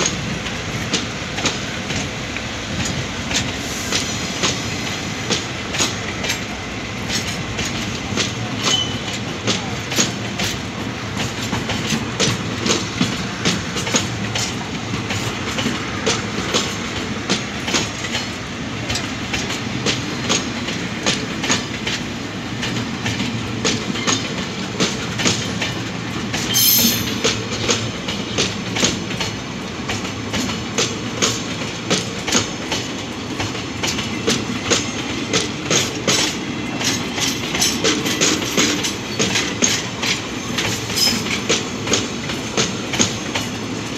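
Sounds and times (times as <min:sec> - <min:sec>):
train rumble: 0:00.0 - 0:43.9
train wheels clicking over rail joints: 0:00.0 - 0:43.9.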